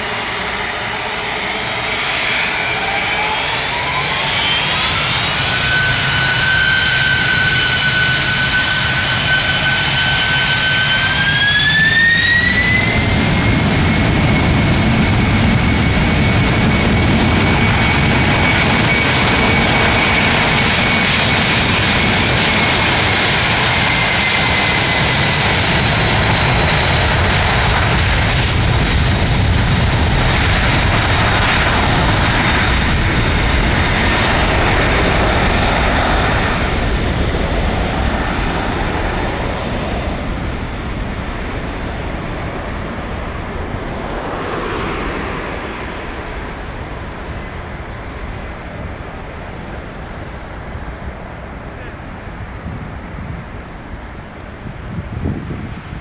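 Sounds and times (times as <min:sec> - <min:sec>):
jet engines spooling up: 0:00.0 - 0:54.2.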